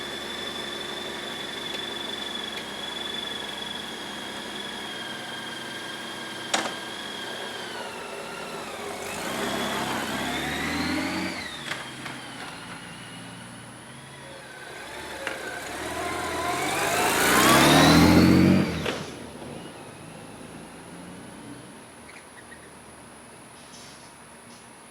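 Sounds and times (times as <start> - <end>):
motorcycle engine accelerating: 0.0 - 22.5.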